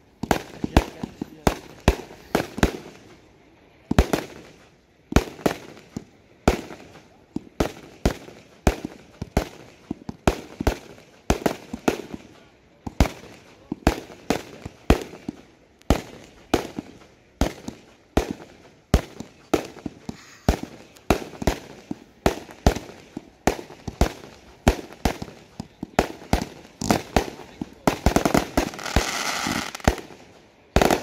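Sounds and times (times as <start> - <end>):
firework bangs: 0.0 - 3.2, 3.8 - 31.0
small firework pops: 0.2 - 3.2, 3.8 - 31.0.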